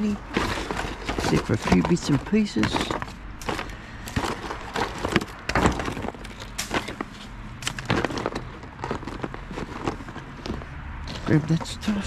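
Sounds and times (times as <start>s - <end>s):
junk knocking and clattering: 0.0s - 7.1s, 7.7s - 11.8s.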